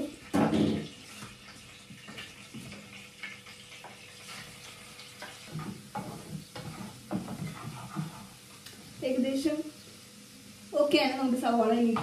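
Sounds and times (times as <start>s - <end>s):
faint sizzling: 0.0s - 12.0s.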